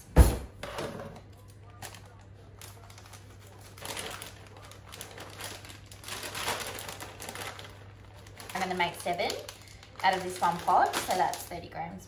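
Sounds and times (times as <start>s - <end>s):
packaging crinkling: 1.4s - 11.6s.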